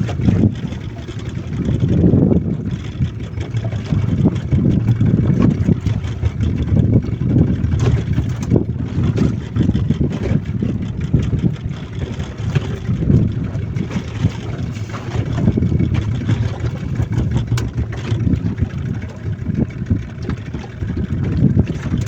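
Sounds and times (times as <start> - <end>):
motorboat engine running: 0.0 - 22.0
water noise: 0.0 - 22.0.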